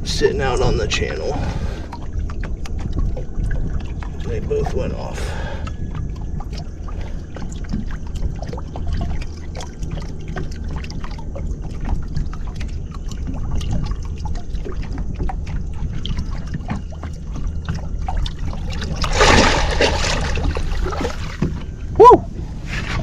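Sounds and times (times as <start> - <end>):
steady low rumble: 0.0 - 22.8
water splashing against boat: 0.0 - 23.0.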